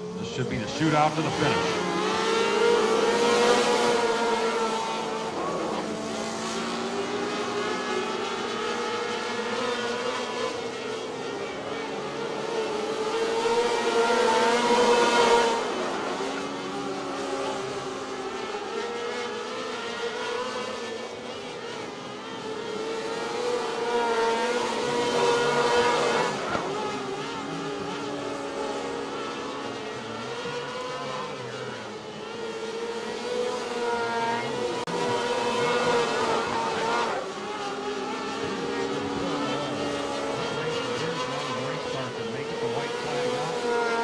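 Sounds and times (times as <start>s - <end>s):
race car engines revving past: 0.0s - 44.0s.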